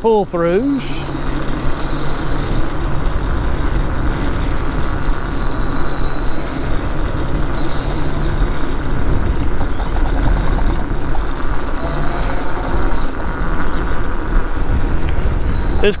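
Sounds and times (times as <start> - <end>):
low hum: 0.0 - 16.0
vehicle engine and road rumble: 0.0 - 16.0.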